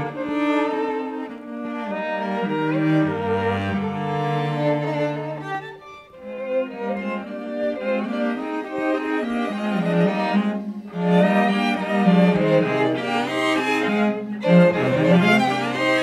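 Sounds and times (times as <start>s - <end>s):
string quartet playing: 0.0s - 16.0s.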